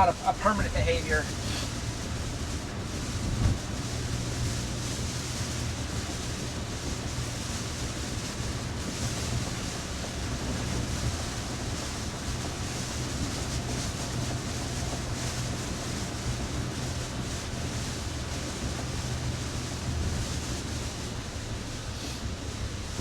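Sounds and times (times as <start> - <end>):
heavy rain on a car: 0.0 - 23.0
tyres on wet road: 0.0 - 23.0.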